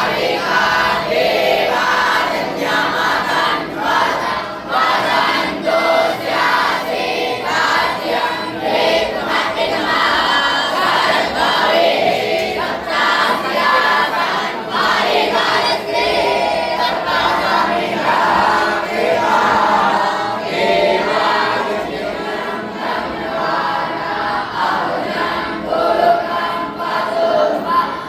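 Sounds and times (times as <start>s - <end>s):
many voices chanting together: 0.0s - 28.0s.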